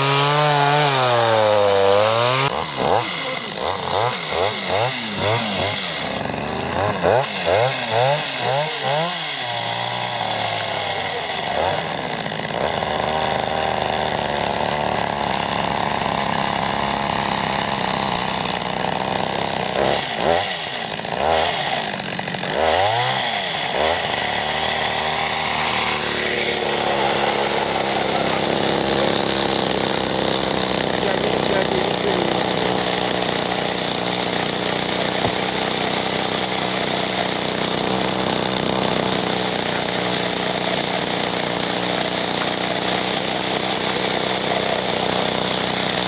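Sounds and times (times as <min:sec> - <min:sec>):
chainsaw engine revving: 0:00.0 - 0:46.0.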